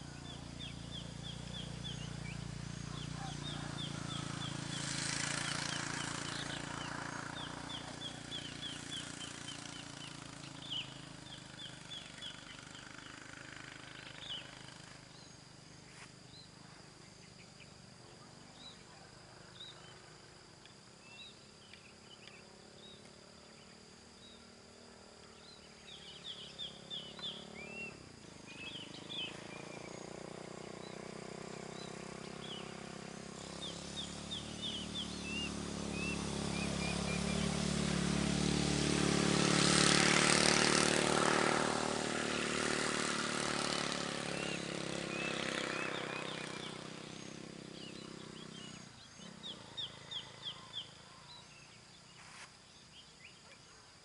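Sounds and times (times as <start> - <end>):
bird chirping: 0.0 - 38.6, 39.7 - 54.0.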